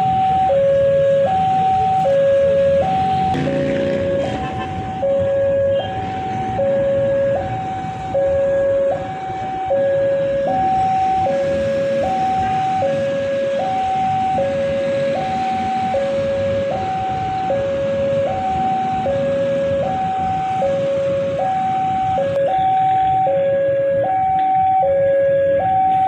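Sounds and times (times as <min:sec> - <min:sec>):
road traffic rumble: 0:00.0 - 0:26.0
two-tone crossing alarm: 0:00.0 - 0:26.0.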